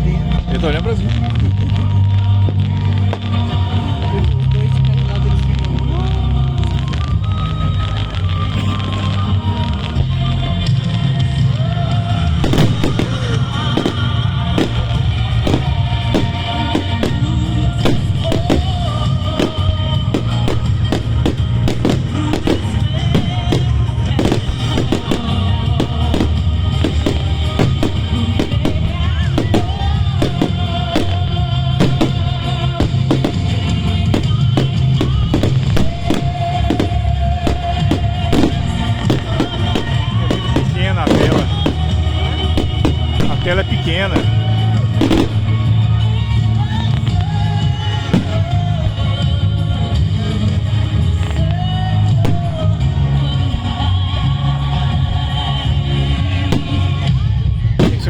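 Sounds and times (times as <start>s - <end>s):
fireworks bangs and crackles: 0.0s - 58.0s
loud music with heavy bass beat: 8.3s - 58.0s.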